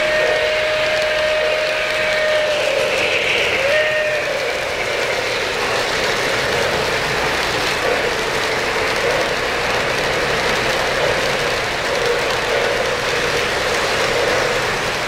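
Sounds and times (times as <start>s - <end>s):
model train wheels clattering: 0.0s - 15.0s.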